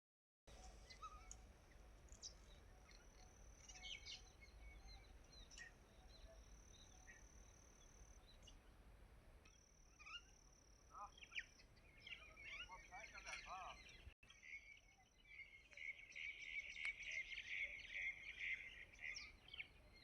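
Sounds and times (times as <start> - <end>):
bird chirps and calls: 0.5 - 8.6, 9.9 - 20.0.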